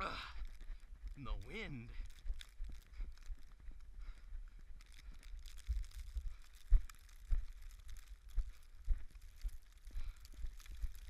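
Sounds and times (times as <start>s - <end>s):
running footsteps crunching in snow: 0.0s - 11.0s.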